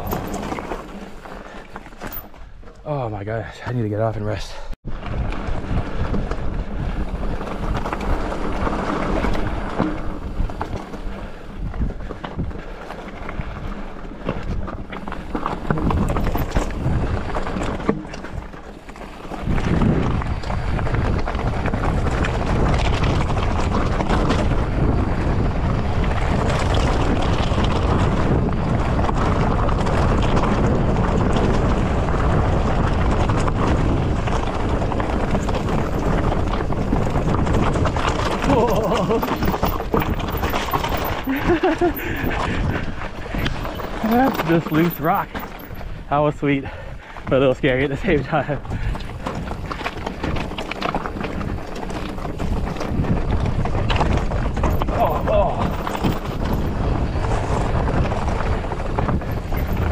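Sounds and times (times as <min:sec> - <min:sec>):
bike rattling over rock: 0:00.0 - 0:03.0, 0:04.9 - 0:59.9
wind buffeting microphone: 0:00.0 - 0:59.9.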